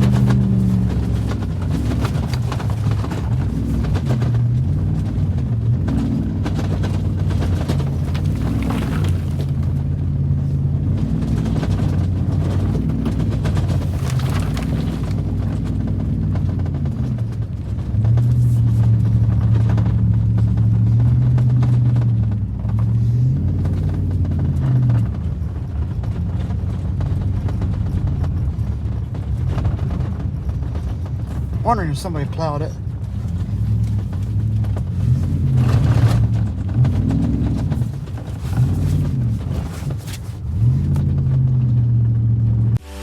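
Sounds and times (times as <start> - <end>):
vehicle engine under load: 0.0 - 43.0.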